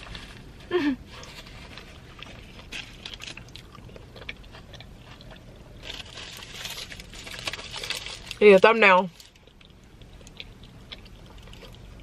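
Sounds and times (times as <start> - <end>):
wet chewing: 1.2 - 8.4, 9.2 - 12.0.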